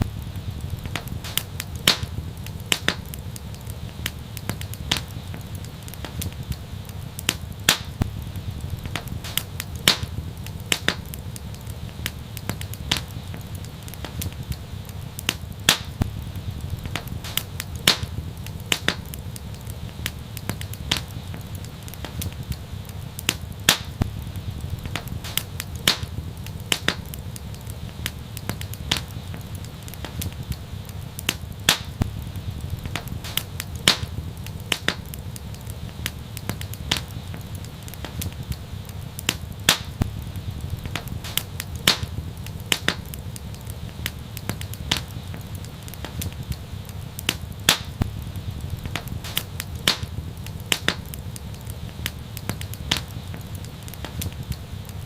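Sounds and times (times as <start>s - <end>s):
low rumble of flame: 0.0s - 55.0s
wood fire crackling: 0.0s - 55.0s.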